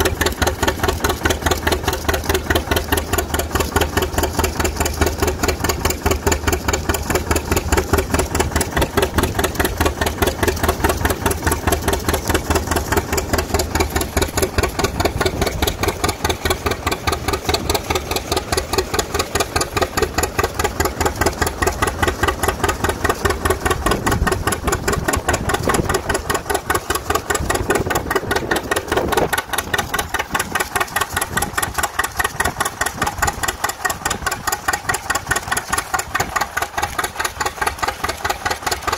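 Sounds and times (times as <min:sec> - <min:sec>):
tractor engine popping exhaust: 0:00.0 - 0:38.9.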